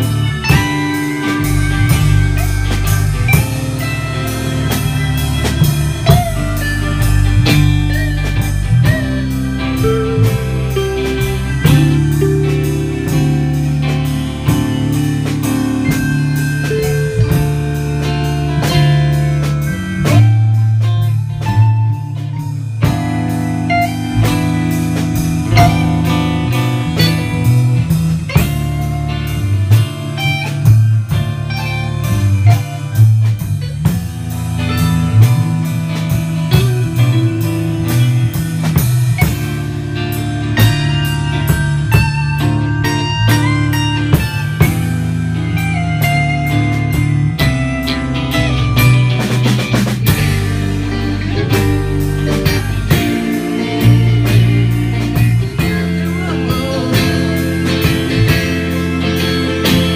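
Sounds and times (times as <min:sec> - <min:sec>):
drum kit: 0:00.0 - 0:59.9
guitar: 0:00.0 - 0:59.9
low bass line: 0:00.0 - 0:59.9.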